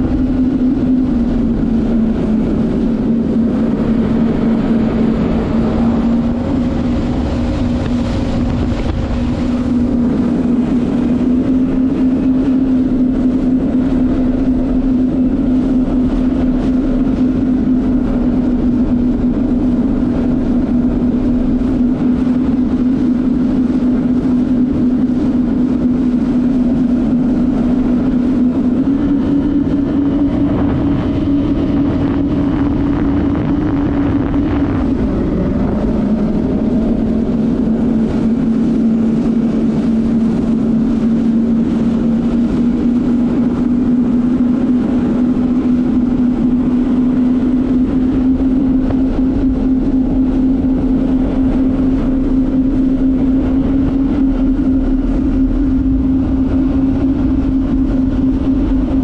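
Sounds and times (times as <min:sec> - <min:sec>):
personal watercraft engine running: 0:00.0 - 0:59.0.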